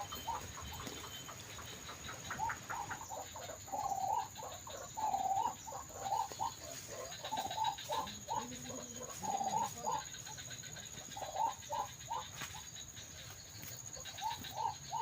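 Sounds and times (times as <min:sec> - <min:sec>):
bird croaking calls: 0:00.0 - 0:15.0.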